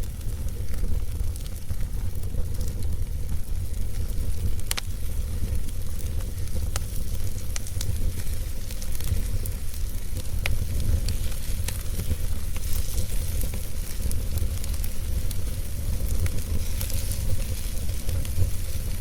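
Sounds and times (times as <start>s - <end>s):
fire crackles and pops: 0.0s - 19.0s
wood fire burning: 0.0s - 19.0s.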